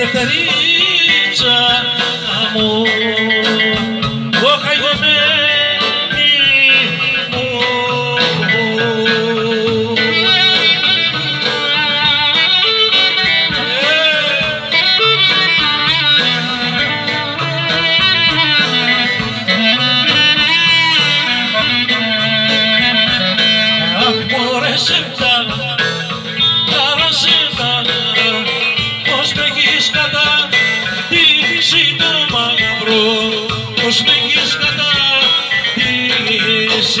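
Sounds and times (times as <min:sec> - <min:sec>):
folk band playing through speakers: 0:00.0 - 0:37.0.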